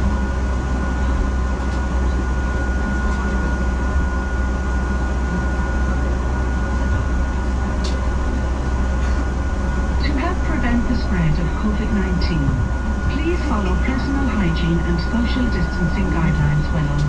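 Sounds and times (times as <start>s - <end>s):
bus engine and road rumble: 0.0s - 17.0s
thin steady whine: 0.0s - 17.0s.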